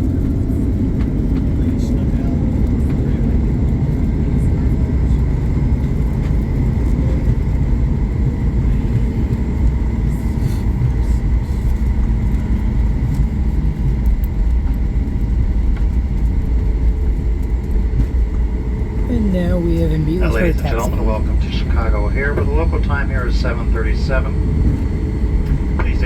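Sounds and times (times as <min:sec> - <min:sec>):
airplane cabin low rumble: 0:00.0 - 0:26.0.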